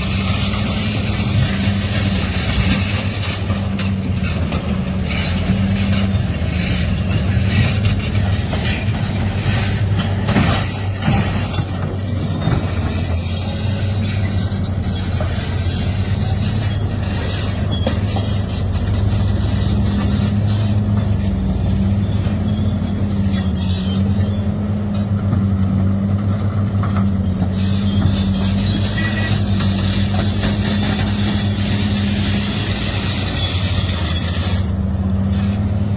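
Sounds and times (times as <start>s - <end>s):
heavy machine engine running: 0.0s - 35.9s.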